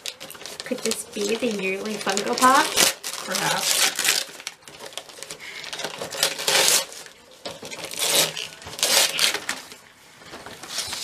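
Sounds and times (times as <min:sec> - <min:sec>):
wrapping paper tearing: 0:00.0 - 0:09.8.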